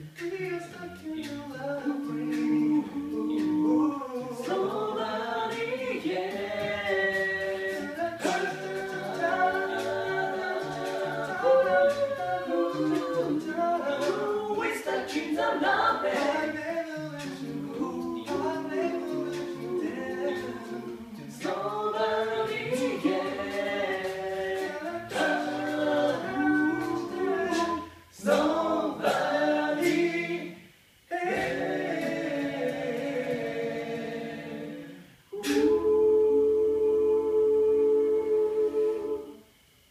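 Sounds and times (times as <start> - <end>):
vocal percussion hits: 0.0 - 39.2
a cappella group singing: 0.0 - 39.9.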